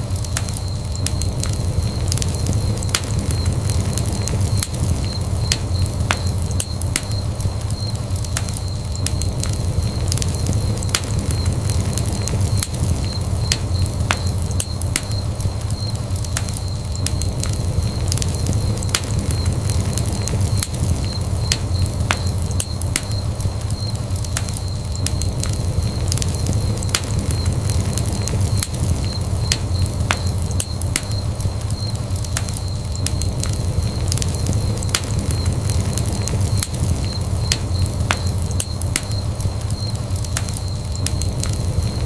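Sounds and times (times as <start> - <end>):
fire crackling and popping: 0.0 - 42.0
fire flames rumbling: 0.0 - 42.0.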